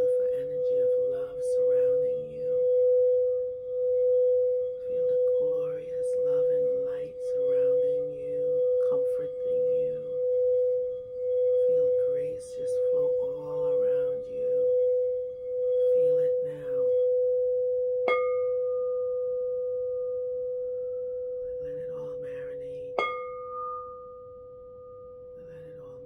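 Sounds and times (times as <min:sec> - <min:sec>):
higher ringing tone: 0:00.0 - 0:26.0
singing bowl low tone: 0:00.0 - 0:26.0.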